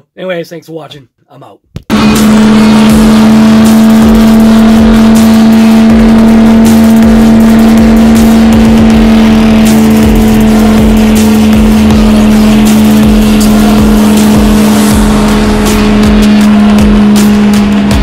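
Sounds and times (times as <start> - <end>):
truck engine revving high: 1.9 - 18.0.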